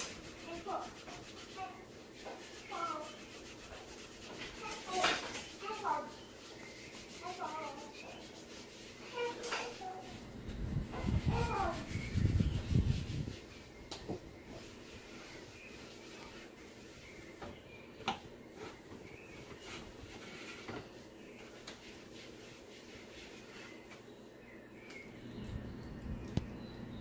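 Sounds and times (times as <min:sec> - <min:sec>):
wipe rubbing on cabinet door: 0:00.0 - 0:17.6, 0:18.5 - 0:24.1.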